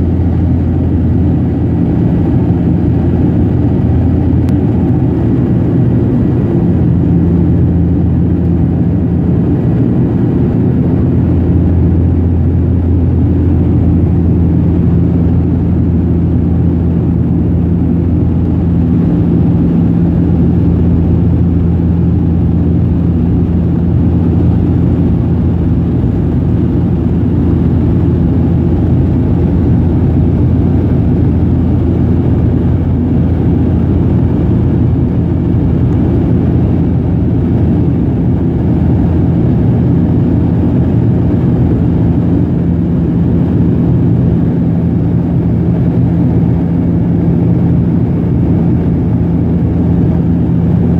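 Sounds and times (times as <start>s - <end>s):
turboprop cabin drone: 0.0s - 50.9s.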